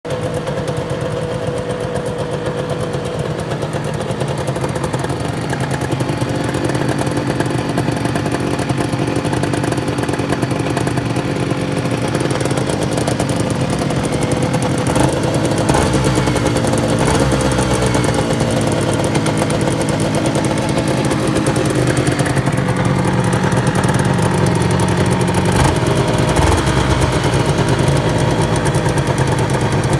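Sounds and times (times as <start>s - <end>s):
motorcycle engine running: 0.1s - 29.9s.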